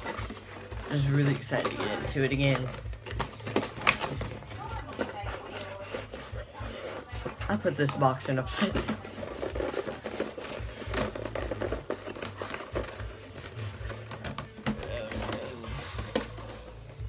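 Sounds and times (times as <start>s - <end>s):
cardboard box rustling and scraping: 0.0s - 17.0s.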